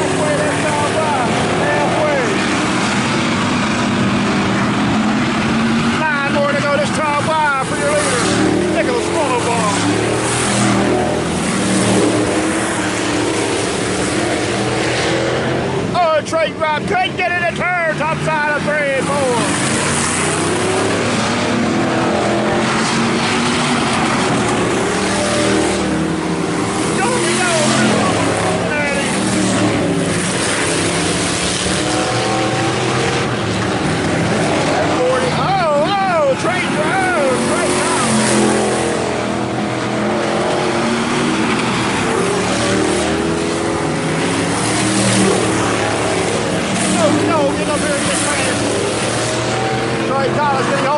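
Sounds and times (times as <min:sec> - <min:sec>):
race car engines: 0:00.0 - 0:50.9.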